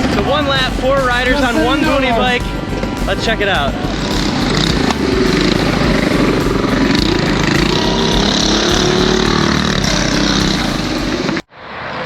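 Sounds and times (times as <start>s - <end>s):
minibike engines revving: 0.0s - 11.5s.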